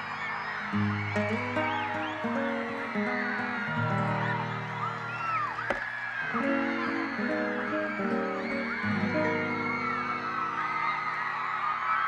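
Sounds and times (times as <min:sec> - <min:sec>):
crowd whistles and shouts: 0:00.0 - 0:12.0.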